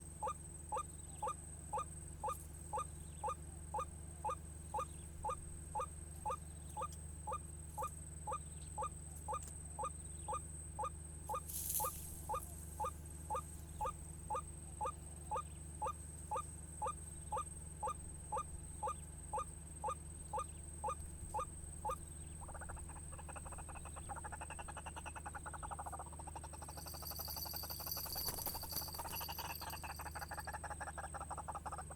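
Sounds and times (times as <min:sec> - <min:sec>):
bird croaking calls: 0:00.2 - 0:31.9
bird rasping chatter: 0:00.2 - 0:31.9.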